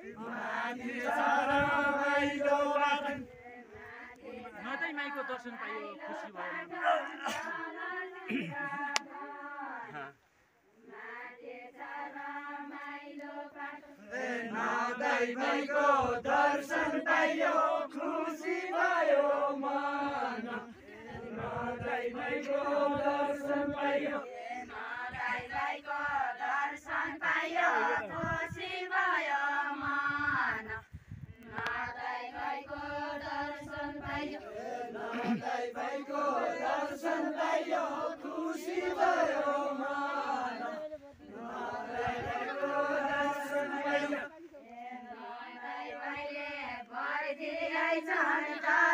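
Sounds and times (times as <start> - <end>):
group singing unaccompanied: 0.0 - 48.9.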